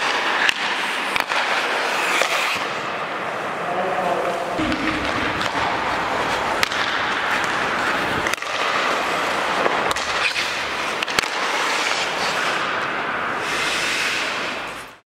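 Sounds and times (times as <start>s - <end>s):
hockey stick hitting puck: 0.0s - 3.2s, 4.2s - 15.0s
skate blades scraping ice: 0.0s - 15.0s.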